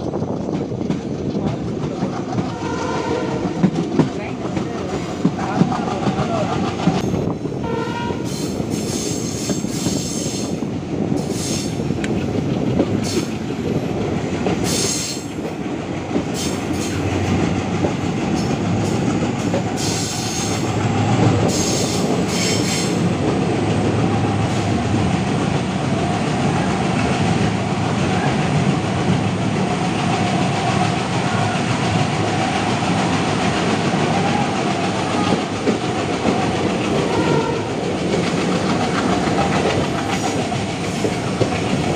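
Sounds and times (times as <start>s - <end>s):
clickety-clack over rail joints: 0.0s - 41.9s
train wheels rumbling: 0.0s - 41.9s.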